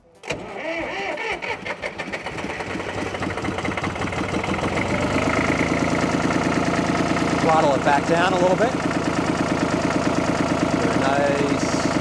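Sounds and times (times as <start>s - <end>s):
diesel engine running: 0.2s - 12.0s.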